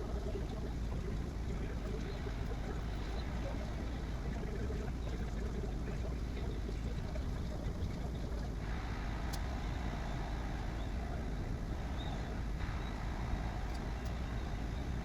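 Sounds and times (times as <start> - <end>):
printer low rumble: 0.0 - 15.0.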